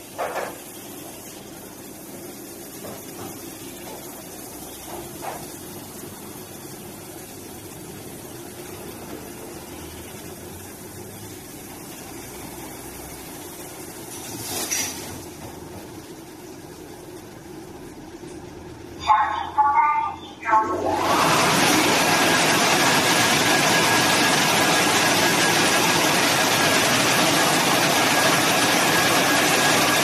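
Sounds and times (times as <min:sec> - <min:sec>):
car wash machine hum and hiss: 0:00.0 - 0:30.0.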